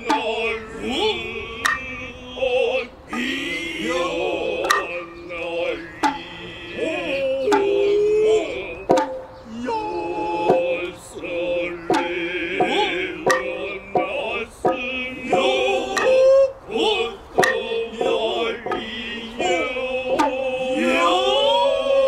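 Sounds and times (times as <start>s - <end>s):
drum strikes: 0.0s - 22.0s
drummers' drawn-out calls: 0.0s - 22.0s
high wavering flute: 0.0s - 22.0s.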